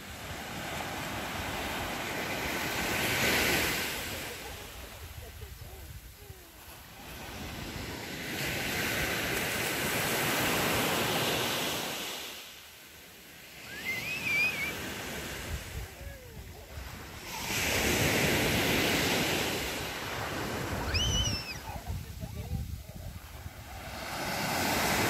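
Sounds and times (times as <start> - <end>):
waves breaking on pebble beach: 0.0 - 12.5, 13.4 - 25.0.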